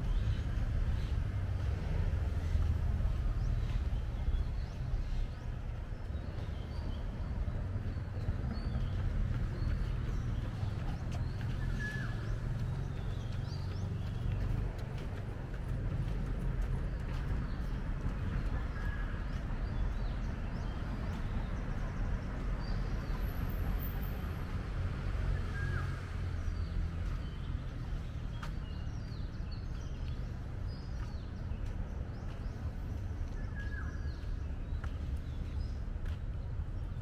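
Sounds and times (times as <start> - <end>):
city traffic rumble: 0.0 - 37.0.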